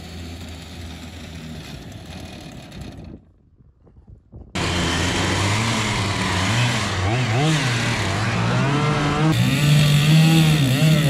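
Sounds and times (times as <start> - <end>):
chainsaw engine running: 0.0 - 3.2, 4.6 - 11.0.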